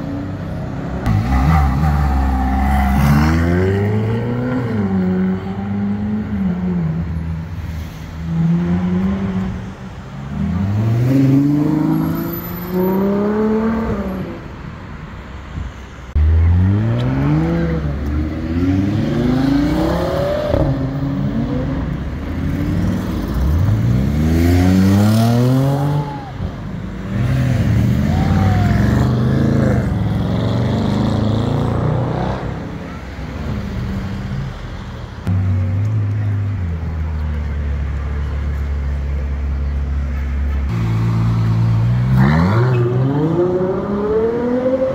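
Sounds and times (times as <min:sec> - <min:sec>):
car engines accelerating: 0:00.0 - 0:14.8, 0:16.1 - 0:44.9.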